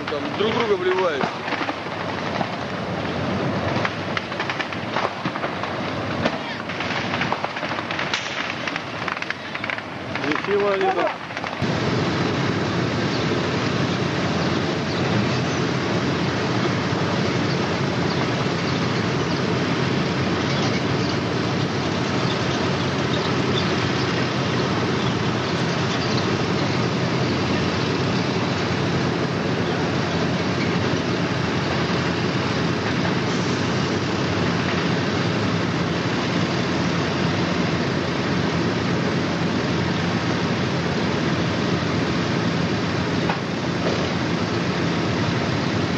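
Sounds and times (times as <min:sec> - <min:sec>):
tracked vehicles diesel engines: 0:00.0 - 0:45.9.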